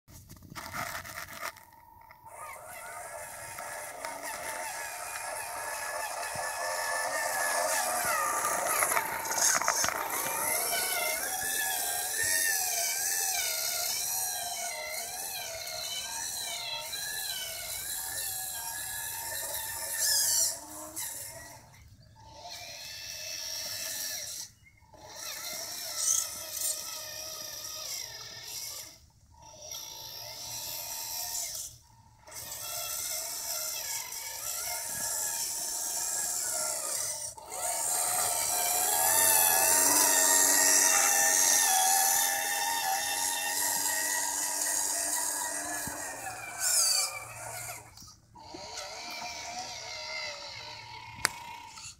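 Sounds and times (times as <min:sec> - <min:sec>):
electric motor and gearbox whining: 0:00.1 - 0:51.9.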